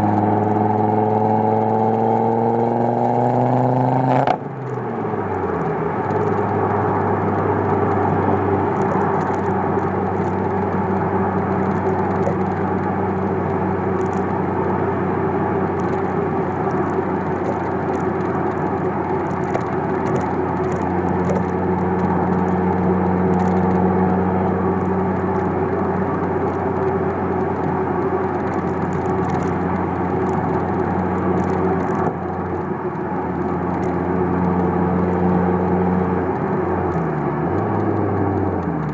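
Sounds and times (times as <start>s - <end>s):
car exhaust drone: 0.0s - 38.9s
road and wind noise: 0.0s - 38.9s.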